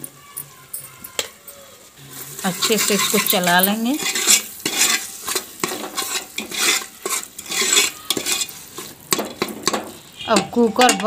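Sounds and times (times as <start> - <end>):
paste sizzling in oil: 1.8 - 11.0
spoon scraping a pot: 2.0 - 11.0.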